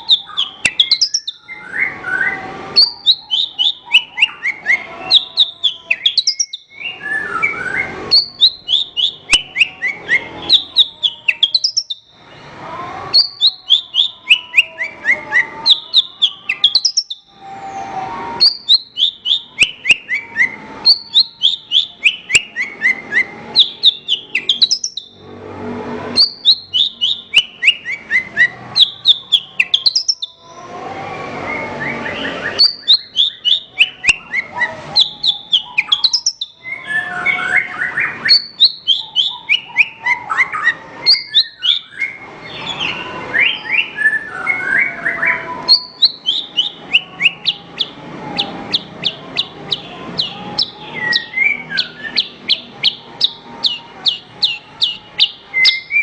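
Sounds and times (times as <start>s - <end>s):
lark singing sharp chirps: 0.0s - 2.0s, 2.8s - 12.3s, 13.1s - 17.4s, 18.4s - 25.2s, 26.2s - 30.6s, 31.7s - 44.0s, 44.8s - 56.0s.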